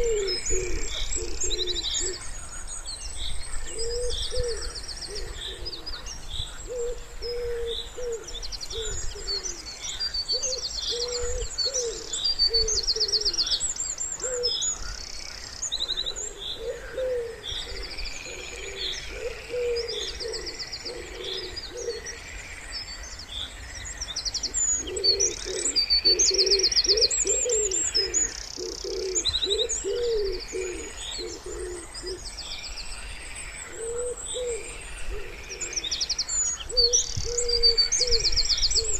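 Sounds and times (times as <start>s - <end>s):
wood pigeons cooing: 0.0s - 2.4s, 3.5s - 13.6s, 14.2s - 15.0s, 15.8s - 22.3s, 24.4s - 32.3s, 33.6s - 36.0s, 36.7s - 38.9s
songbirds trilling and chirping: 0.0s - 38.9s.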